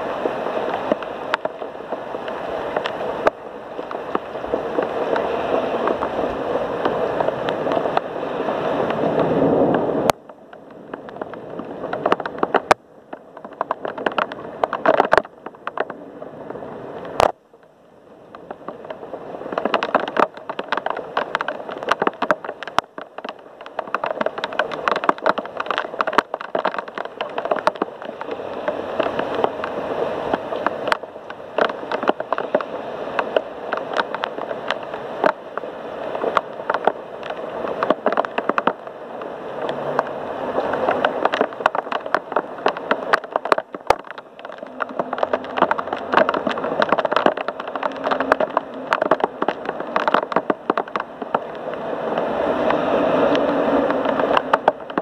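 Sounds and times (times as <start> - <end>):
heavy rain with dripping: 0.0 - 55.0.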